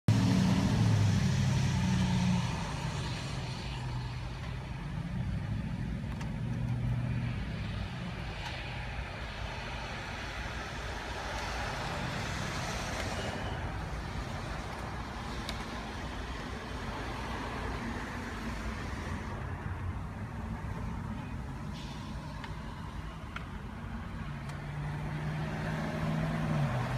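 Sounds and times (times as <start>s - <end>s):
road noise: 0.0s - 26.9s.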